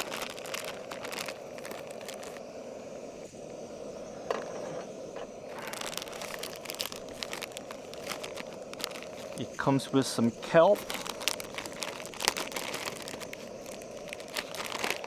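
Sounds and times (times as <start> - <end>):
plastic packaging crinkling: 0.0 - 2.4, 4.3 - 15.0
steady low hiss: 0.0 - 15.0.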